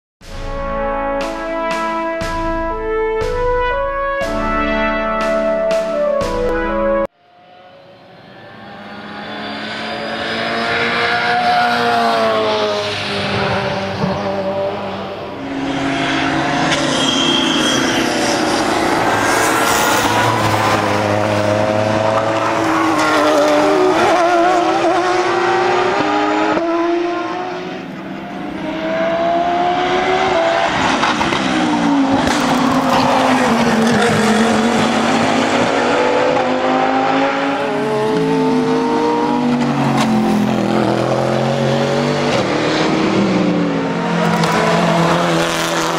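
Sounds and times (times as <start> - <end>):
race cars passing at high revs: 7.2 - 45.9.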